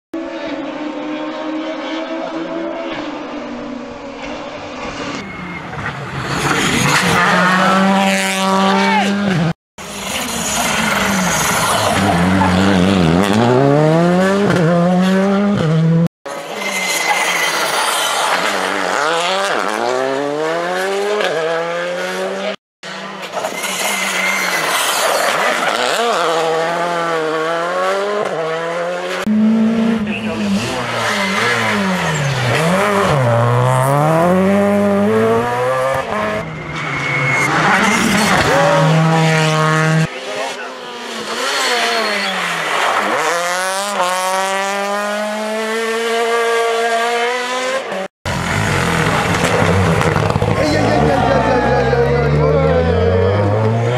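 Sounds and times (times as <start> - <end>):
rally car engine revving: 0.2 - 16.5, 18.1 - 53.9.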